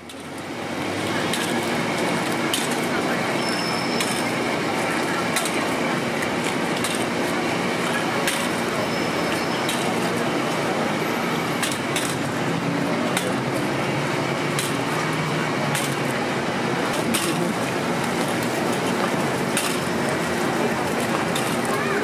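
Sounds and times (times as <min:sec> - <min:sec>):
busy food stall noise: 0:00.0 - 0:22.0.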